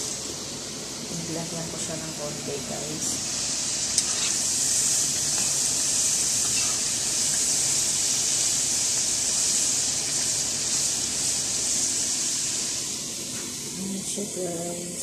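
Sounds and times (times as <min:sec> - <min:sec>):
fries sizzling in hot oil: 0:00.0 - 0:15.0.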